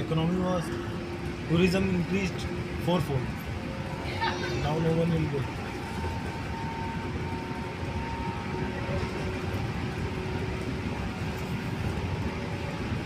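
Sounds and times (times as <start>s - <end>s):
faint steady whine: 0.0s - 13.0s
train low rumble: 0.0s - 13.0s.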